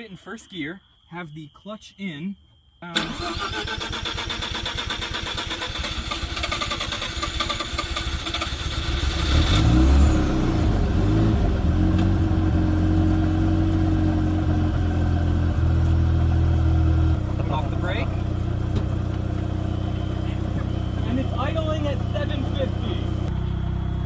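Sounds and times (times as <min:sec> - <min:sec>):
rotary engine cranking and idling: 0:03.0 - 0:24.0.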